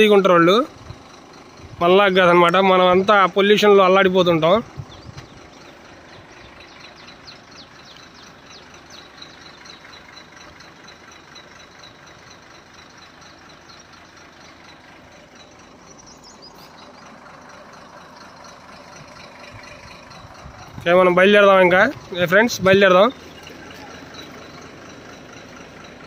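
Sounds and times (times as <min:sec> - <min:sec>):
diesel engine idling: 0:00.0 - 0:26.0
high falling chirps: 0:01.9 - 0:26.0.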